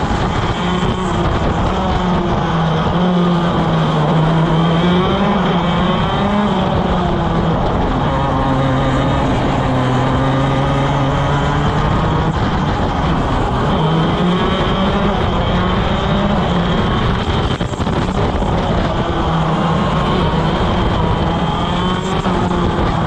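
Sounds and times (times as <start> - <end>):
kart engine at racing speed: 0.0 - 23.0
wind noise: 0.0 - 23.0.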